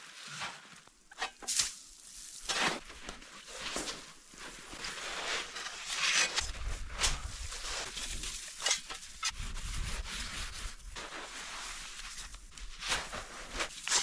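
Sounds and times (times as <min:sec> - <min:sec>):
snow being scraped and crunched: 0:00.0 - 0:14.0.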